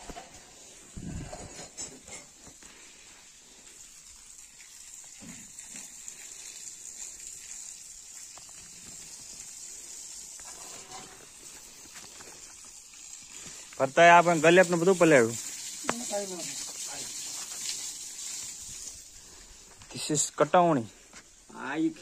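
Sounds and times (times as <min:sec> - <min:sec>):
faint high-pitched hiss: 0:00.0 - 0:22.0.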